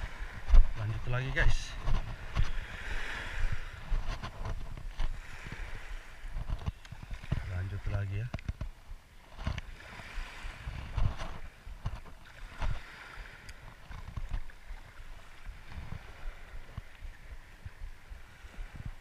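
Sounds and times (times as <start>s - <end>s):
water lapping: 0.0s - 8.5s, 9.1s - 19.0s
wind thumping on microphone: 0.0s - 19.0s.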